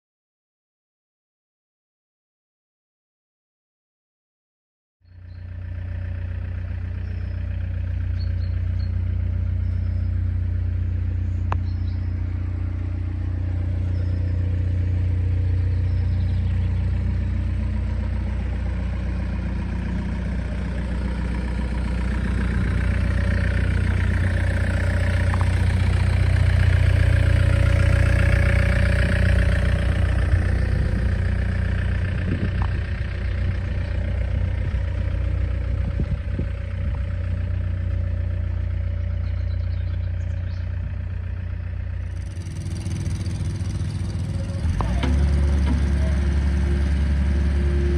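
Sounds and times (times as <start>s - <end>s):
excavator diesel engine running: 5.2s - 47.9s.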